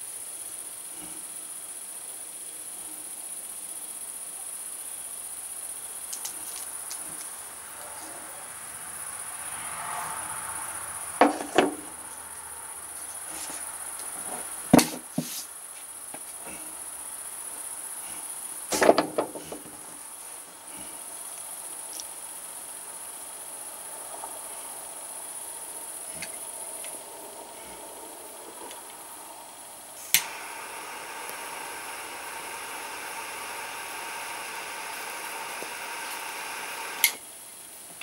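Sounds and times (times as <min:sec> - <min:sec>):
crickets chirring: 0:00.0 - 0:38.0.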